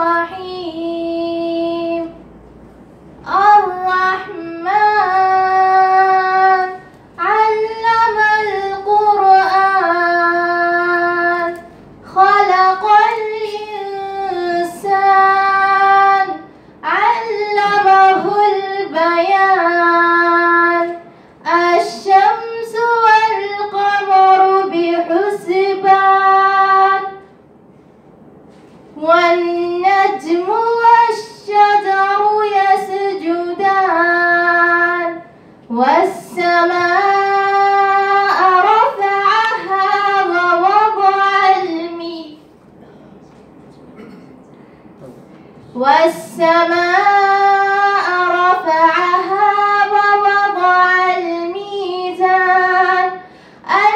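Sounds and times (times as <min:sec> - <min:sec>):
woman chanting melodically: 0:00.0 - 0:02.3, 0:03.2 - 0:27.3, 0:29.0 - 0:42.5, 0:45.6 - 0:53.9.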